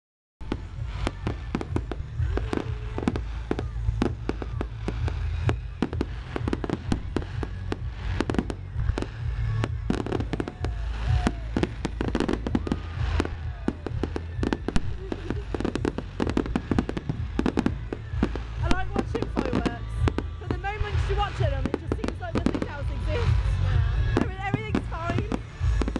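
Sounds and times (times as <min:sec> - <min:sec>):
fireworks bangs and crackles: 0:00.4 - 0:25.9
low rumble: 0:00.4 - 0:25.9.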